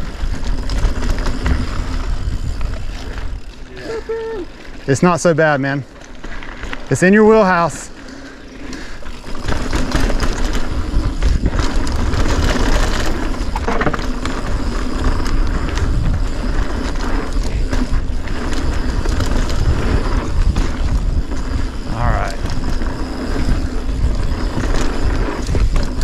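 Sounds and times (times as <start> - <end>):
bike clattering over bumps: 0.0 - 4.0, 4.6 - 26.0
tyres crunching over gravel: 0.0 - 26.0.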